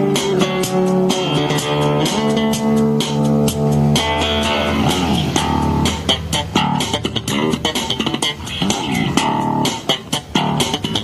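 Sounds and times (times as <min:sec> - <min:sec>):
guitar-led music with beat: 0:00.0 - 0:11.0.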